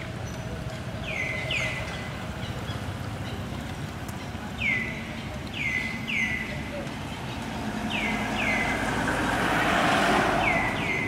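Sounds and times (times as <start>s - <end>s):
bird calling: 0.0s - 9.0s, 10.3s - 11.0s.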